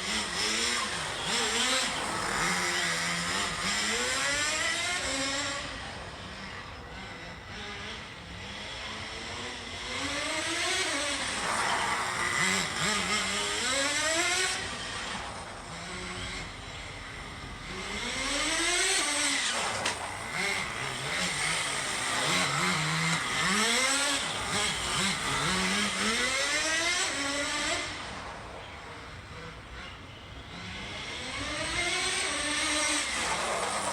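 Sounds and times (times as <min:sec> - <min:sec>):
rc car engine revving: 0:00.0 - 0:33.9.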